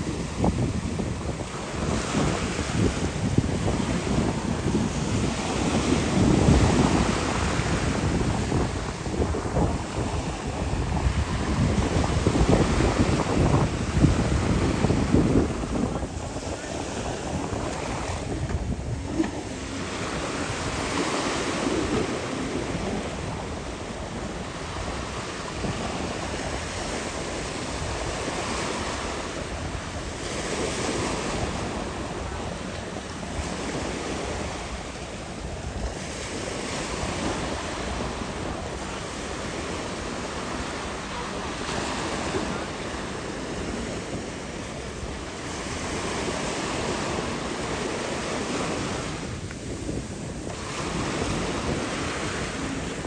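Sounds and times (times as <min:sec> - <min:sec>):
waves washing and splashing: 0:00.0 - 0:53.0
wind buffeting microphone: 0:00.0 - 0:53.0.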